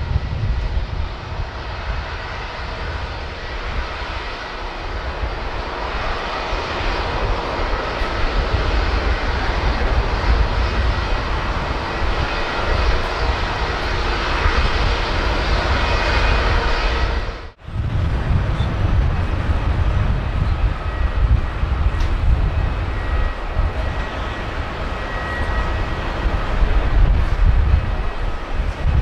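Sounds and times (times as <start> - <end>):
jet engines rumbling with whine: 0.0 - 29.0.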